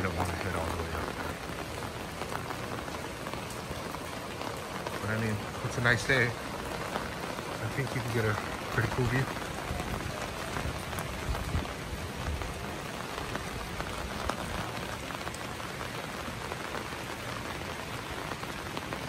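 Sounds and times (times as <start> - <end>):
steady rain patter: 0.0 - 19.0.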